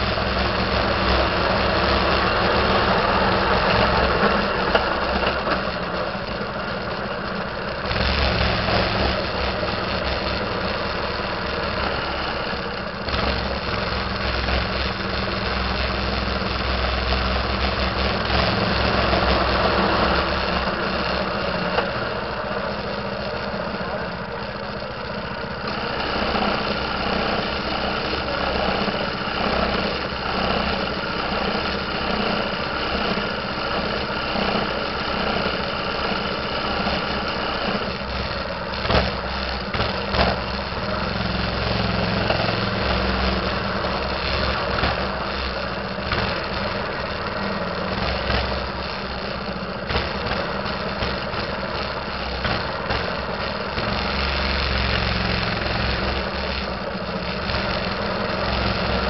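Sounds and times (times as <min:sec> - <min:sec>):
minibike engine running: 0:00.0 - 0:59.0.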